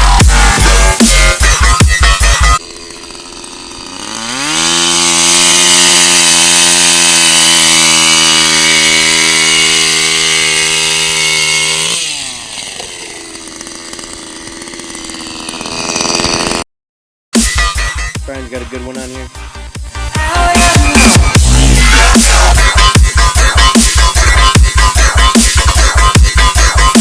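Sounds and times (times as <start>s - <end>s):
ice auger engine revving: 0.0s - 16.6s, 20.5s - 27.0s.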